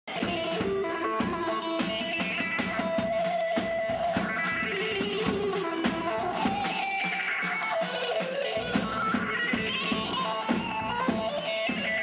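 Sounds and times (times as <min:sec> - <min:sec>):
plucked string melody: 0:00.1 - 0:12.0
steady drum beat: 0:00.1 - 0:12.0.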